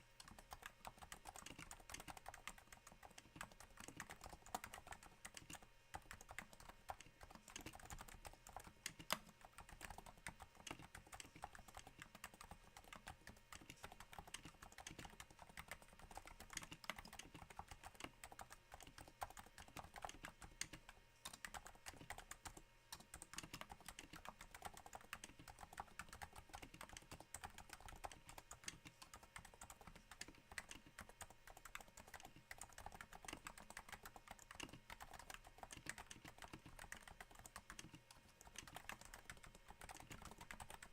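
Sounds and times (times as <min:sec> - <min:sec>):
soft keyboard typing: 0:00.0 - 0:40.9.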